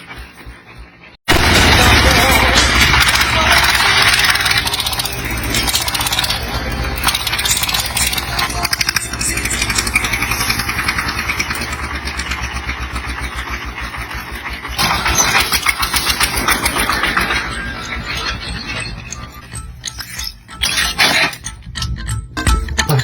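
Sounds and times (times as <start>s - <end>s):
rattle: 0.0s - 23.0s
truck engine running hard: 1.3s - 19.8s.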